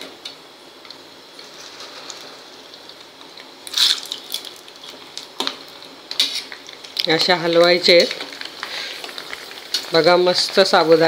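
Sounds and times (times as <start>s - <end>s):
hot oil crackling: 0.0s - 11.0s
loud sizzling: 0.0s - 11.0s.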